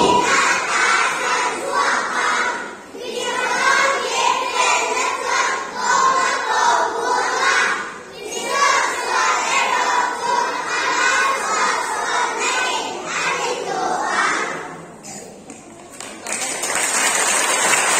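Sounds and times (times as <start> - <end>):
children reciting in unison: 0.0 - 15.3.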